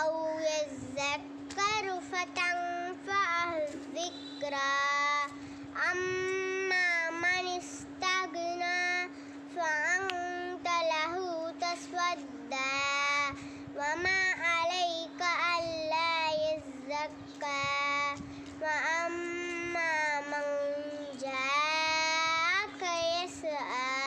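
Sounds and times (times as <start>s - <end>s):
girl chanting melodically: 0.0s - 24.0s.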